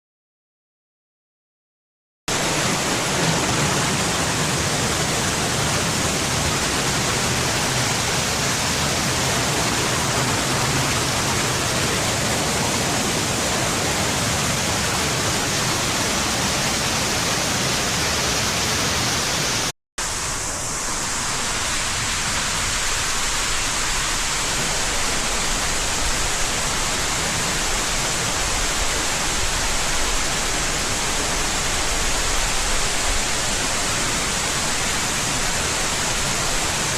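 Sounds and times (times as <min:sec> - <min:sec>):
waterfall rushing: 0:02.3 - 0:36.9.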